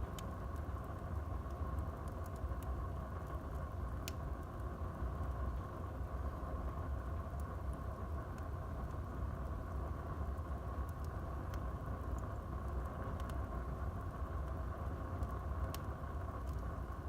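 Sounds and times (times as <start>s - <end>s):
flames rushing: 0.0s - 17.0s
wood fire crackling and popping: 0.0s - 17.0s.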